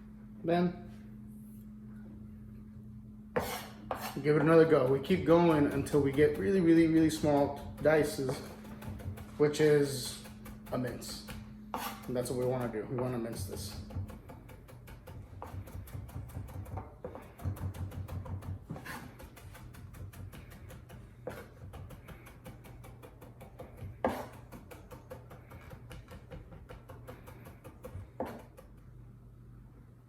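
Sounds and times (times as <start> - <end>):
knife chopping on cutting board: 3.4 - 28.9.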